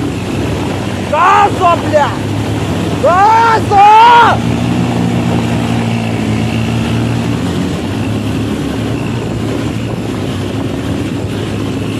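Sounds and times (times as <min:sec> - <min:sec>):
atv engine running: 0:00.0 - 0:11.9.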